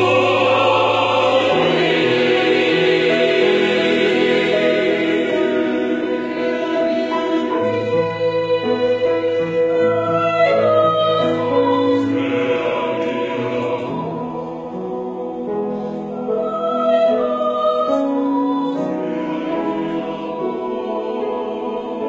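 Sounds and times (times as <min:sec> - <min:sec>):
mixed choir singing chords: 0:00.0 - 0:22.0
piano accompaniment: 0:00.0 - 0:22.0.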